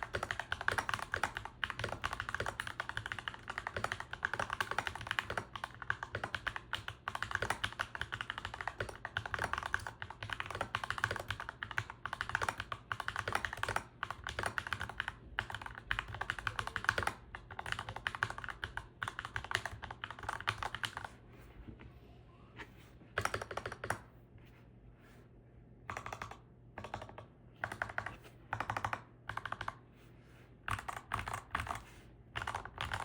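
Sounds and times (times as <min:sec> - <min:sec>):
typing on mechanical keyboard: 0:00.0 - 0:21.1, 0:23.2 - 0:24.1, 0:25.9 - 0:29.8, 0:30.7 - 0:33.0.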